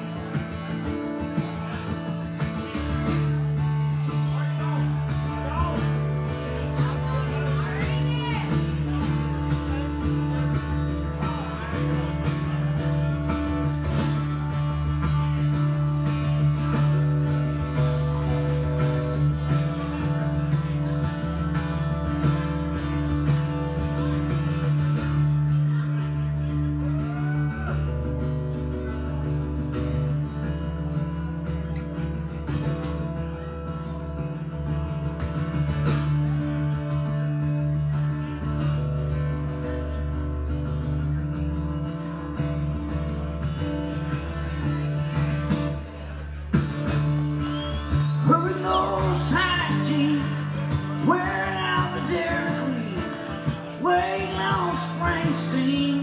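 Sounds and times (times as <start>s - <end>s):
country guitar strumming: 0.0s - 56.0s.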